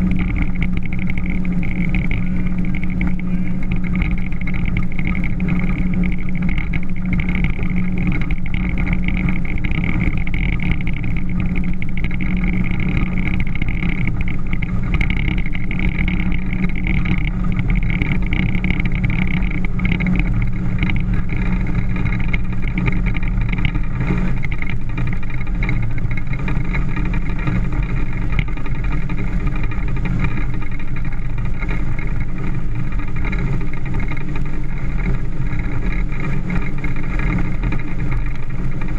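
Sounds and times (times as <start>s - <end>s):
motorboat engine humming: 0.0s - 38.9s.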